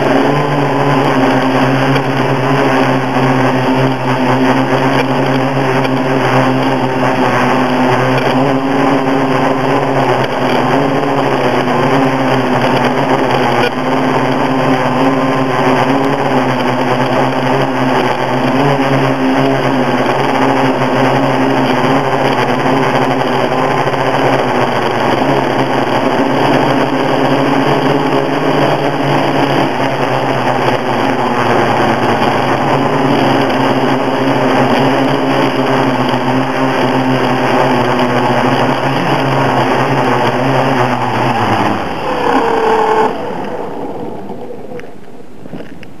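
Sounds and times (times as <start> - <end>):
drone motors humming: 0.0 - 46.0.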